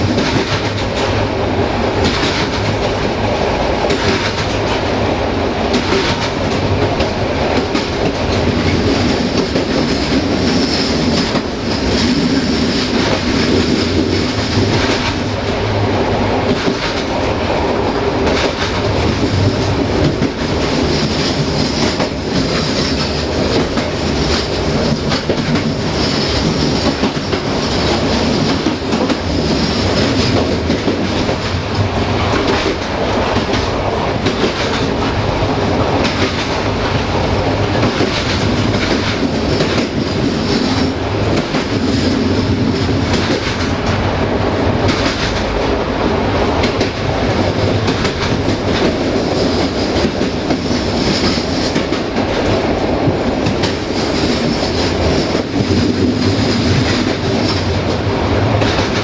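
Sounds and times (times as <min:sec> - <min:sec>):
clickety-clack of rail joints: 0:00.0 - 0:59.0
train wheels rumbling on rail: 0:00.0 - 0:59.0.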